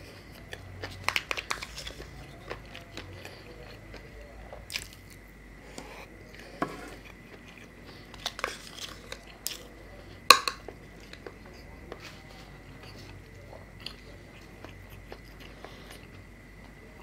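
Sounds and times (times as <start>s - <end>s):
person chewing and smacking: 0.0s - 16.8s.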